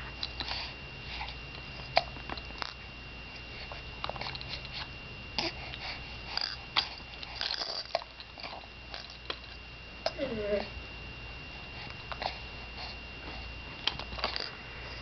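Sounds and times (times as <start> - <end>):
faint high whine: 0.0 - 15.0
baby chewing a toy: 0.1 - 10.2, 11.8 - 14.6.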